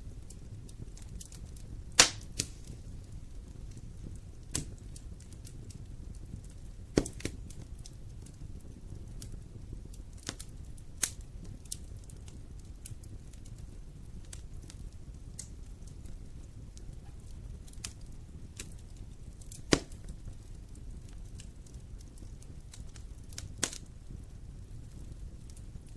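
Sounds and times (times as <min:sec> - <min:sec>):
fire crackling in fireplace: 0:00.0 - 0:25.9
sharp pops of fire: 0:00.0 - 0:25.9.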